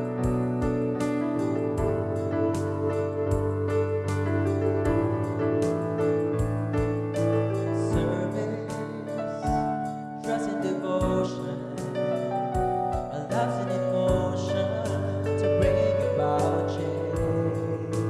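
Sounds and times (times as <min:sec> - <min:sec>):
instrumental hymn accompaniment: 0:00.0 - 0:18.0.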